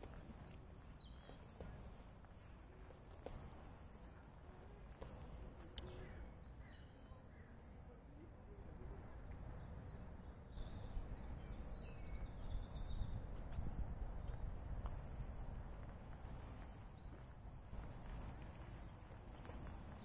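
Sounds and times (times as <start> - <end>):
songbirds chirping and singing: 0.0 - 20.0.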